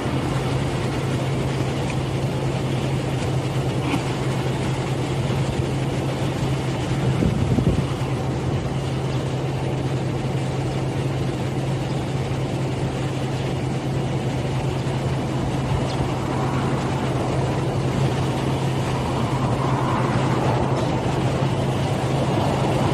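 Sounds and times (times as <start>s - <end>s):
machine humming: 0.0s - 22.9s.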